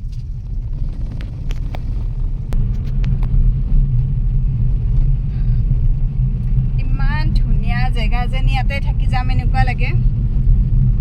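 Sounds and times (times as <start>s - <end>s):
car rumble on the move: 0.0s - 11.0s.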